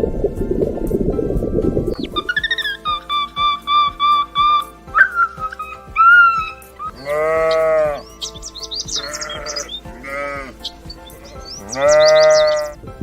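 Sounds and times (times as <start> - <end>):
background music: 0.0 - 13.0
farm animal bleating: 2.3 - 12.8.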